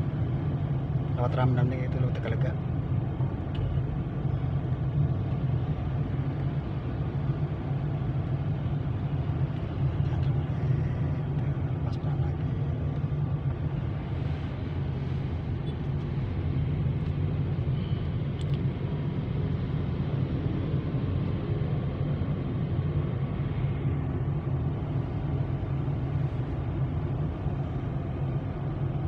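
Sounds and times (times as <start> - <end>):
car engine and tyre noise: 0.0 - 29.0.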